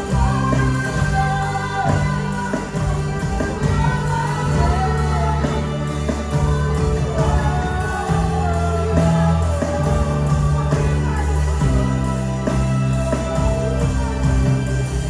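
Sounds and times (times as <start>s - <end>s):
worship band with singing: 0.0s - 15.0s.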